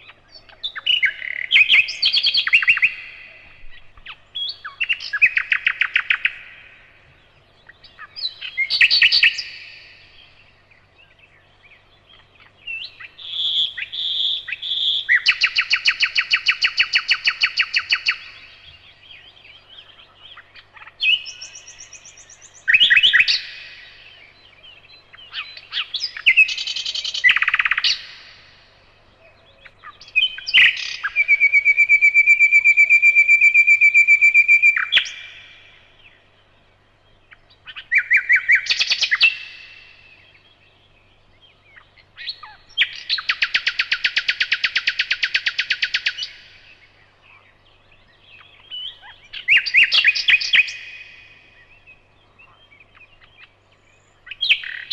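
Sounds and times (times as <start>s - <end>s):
nightingale singing: 0.0s - 54.9s.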